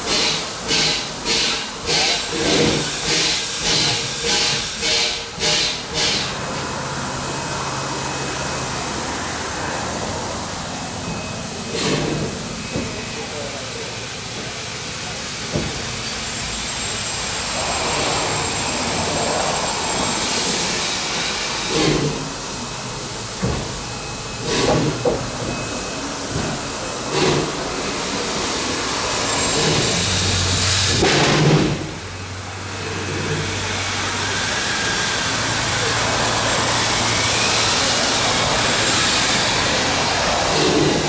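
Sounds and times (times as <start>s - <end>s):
steam locomotive hissing: 0.0s - 41.0s.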